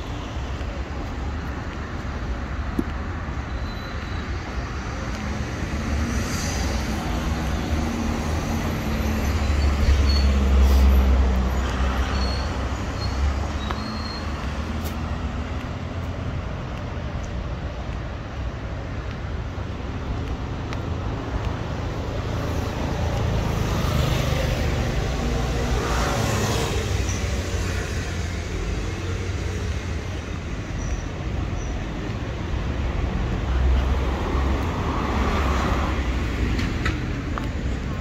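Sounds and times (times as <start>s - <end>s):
low rumble of traffic: 0.0s - 38.0s.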